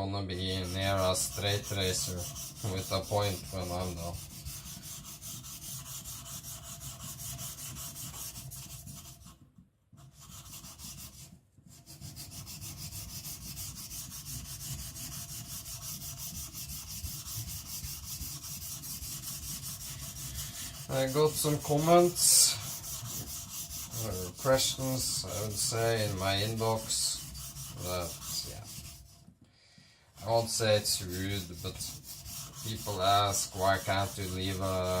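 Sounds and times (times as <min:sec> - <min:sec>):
blade rubbing on whetstone: 0:00.5 - 0:09.3, 0:10.1 - 0:29.3, 0:30.2 - 0:35.0.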